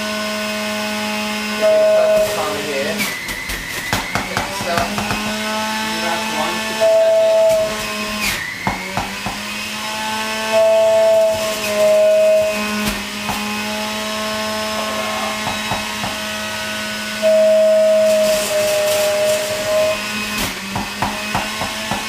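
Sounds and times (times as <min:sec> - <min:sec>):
juicer motor whining: 0:00.0 - 0:22.0.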